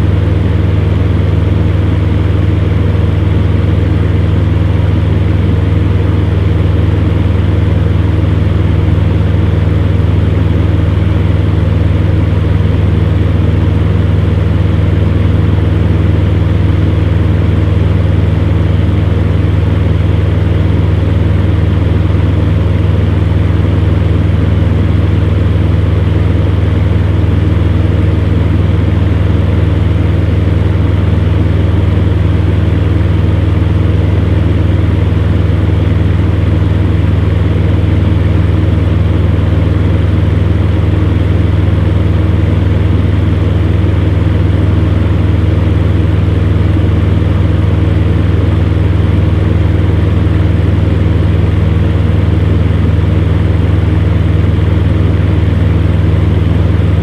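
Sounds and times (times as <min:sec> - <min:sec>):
electric fan heater humming: 0:00.0 - 0:57.0.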